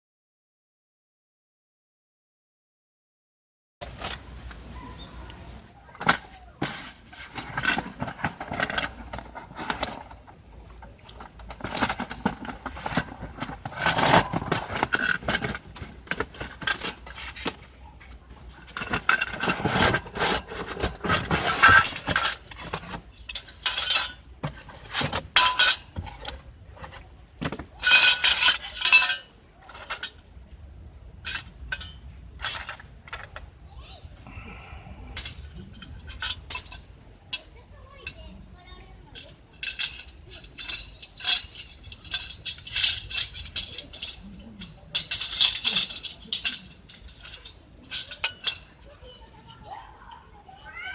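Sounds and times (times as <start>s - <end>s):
metal camping gear clinking: 3.8s - 33.4s, 34.2s - 38.2s, 39.1s - 50.9s.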